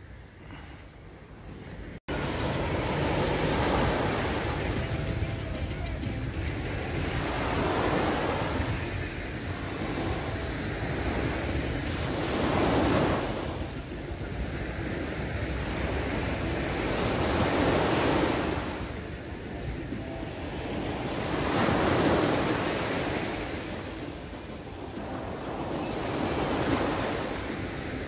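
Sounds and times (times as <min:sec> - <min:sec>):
small waves breaking on beach: 0:02.1 - 0:05.3, 0:07.0 - 0:28.0.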